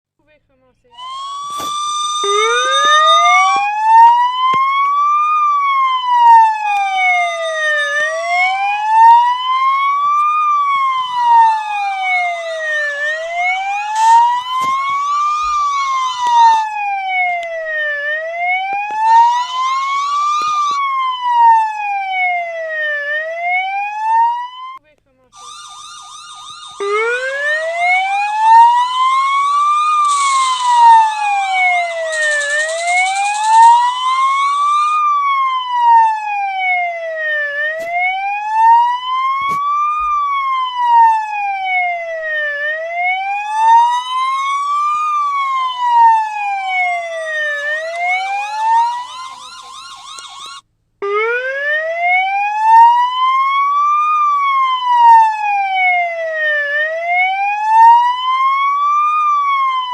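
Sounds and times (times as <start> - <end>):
fast warbling siren: 0.9 - 59.9
police siren slow wail: 1.0 - 59.9.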